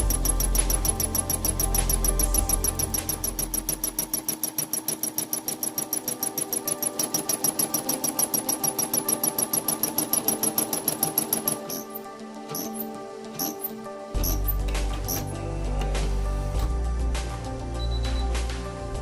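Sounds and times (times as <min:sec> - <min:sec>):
embroidery machine stitching: 0:00.0 - 0:15.4.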